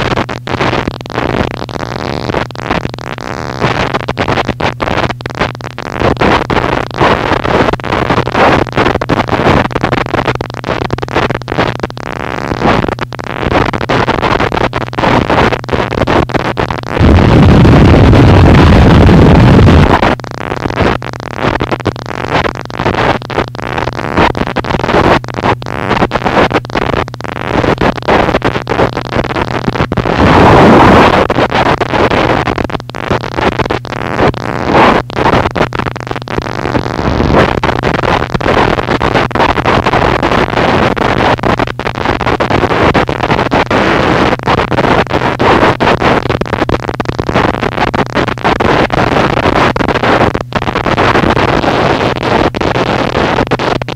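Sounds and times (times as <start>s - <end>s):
distorted static noise: 0.0s - 53.9s.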